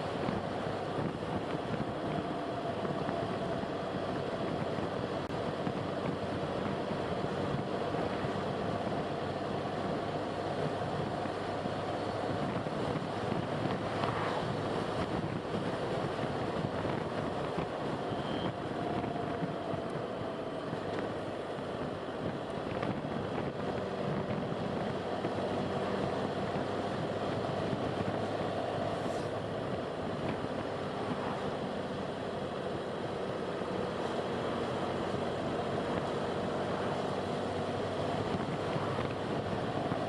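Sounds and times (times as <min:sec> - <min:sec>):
car engine and tyre noise: 0:00.0 - 0:40.0.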